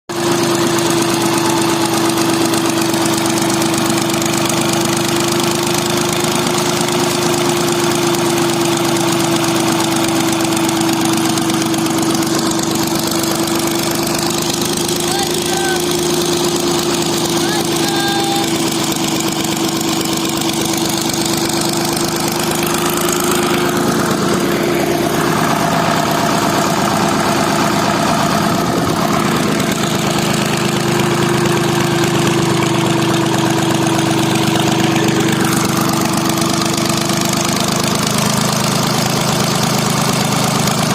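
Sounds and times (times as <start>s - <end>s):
diesel engine idling: 0.1s - 40.9s.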